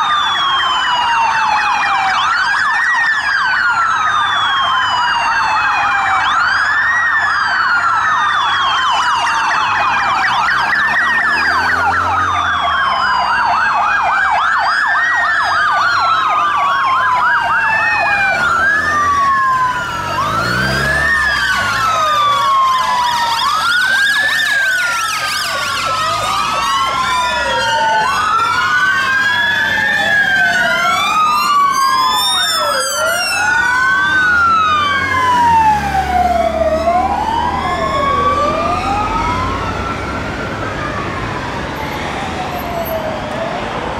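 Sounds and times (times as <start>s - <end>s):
police sirens wailing: 0.0s - 43.9s.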